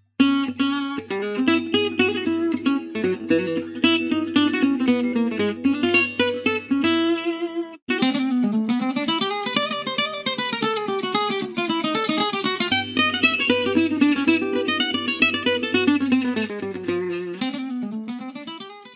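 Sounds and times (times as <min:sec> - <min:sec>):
flamenco acoustic guitar picking: 0:00.2 - 0:18.8.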